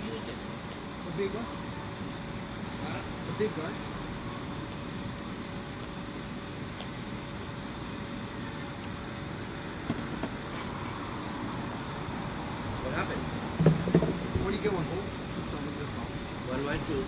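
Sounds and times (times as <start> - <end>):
distant rumble and hiss: 0.0 - 17.0.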